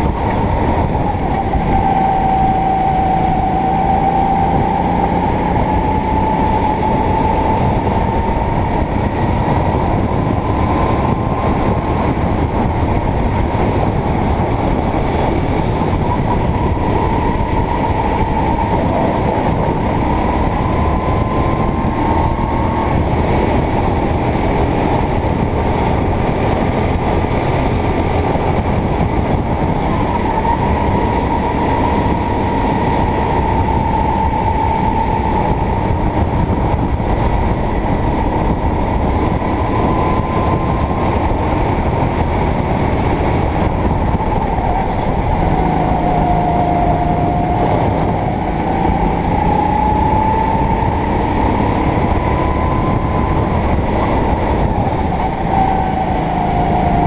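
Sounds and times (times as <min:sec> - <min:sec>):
kart engine running hard: 0:00.0 - 0:57.0
wind and track noise: 0:00.0 - 0:57.0.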